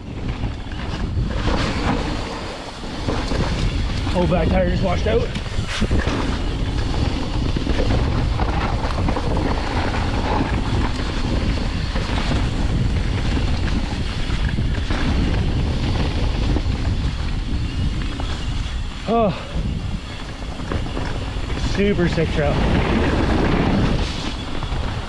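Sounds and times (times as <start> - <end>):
bike tyres rolling over dirt: 0.0 - 25.0
wind buffeting a microphone: 0.0 - 25.0.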